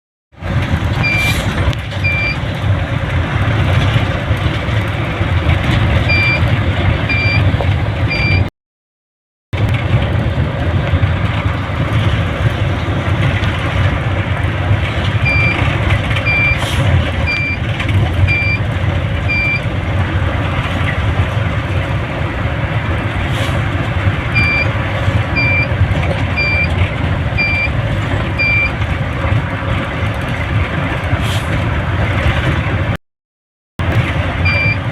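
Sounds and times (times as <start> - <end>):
vehicle engine and road noise: 0.3 - 8.5, 9.5 - 33.0, 33.8 - 34.9.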